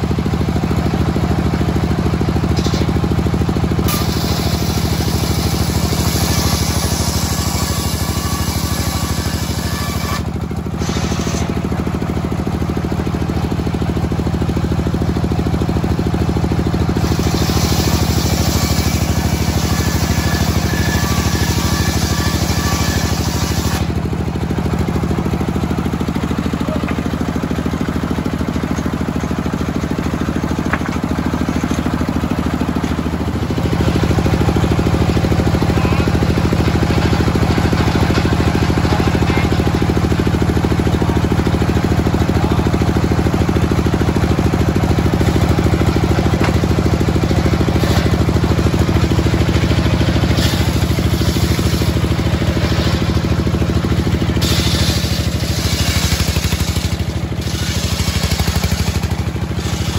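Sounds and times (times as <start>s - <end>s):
engine-driven sawmill running: 0.0s - 59.9s.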